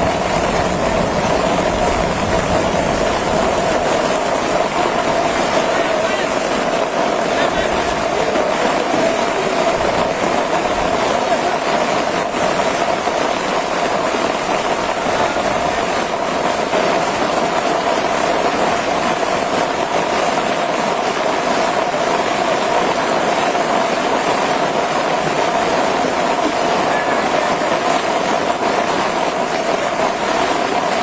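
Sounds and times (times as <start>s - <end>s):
rush of flowing water: 0.0s - 31.0s.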